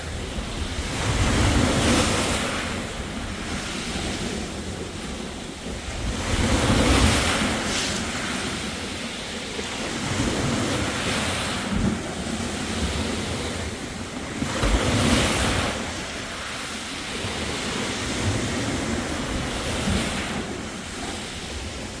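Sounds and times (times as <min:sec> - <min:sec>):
sea waves breaking on beach: 0:00.0 - 0:22.0
wind buffeting microphone: 0:00.0 - 0:22.0.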